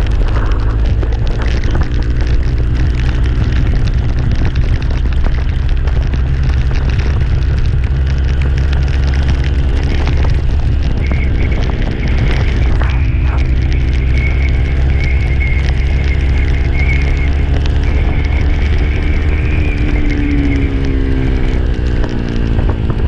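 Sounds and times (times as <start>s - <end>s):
vehicle engine drone: 0.0s - 23.0s
wind noise: 0.0s - 23.0s.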